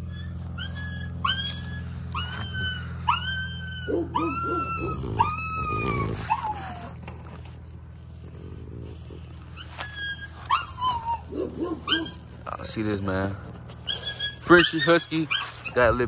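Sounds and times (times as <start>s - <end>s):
steady low hum: 0.0s - 14.7s
dog whining: 0.0s - 16.0s.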